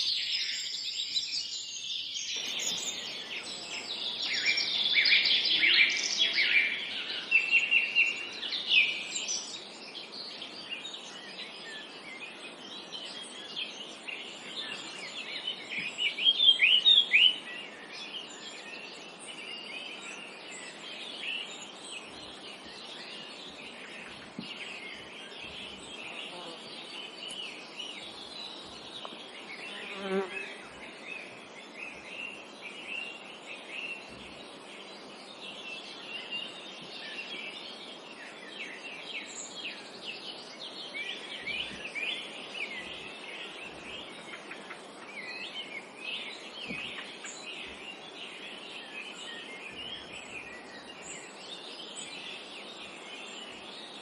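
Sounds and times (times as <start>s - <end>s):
soft forest background hiss: 0.0s - 54.0s
songbirds chirping and twittering: 0.0s - 54.0s.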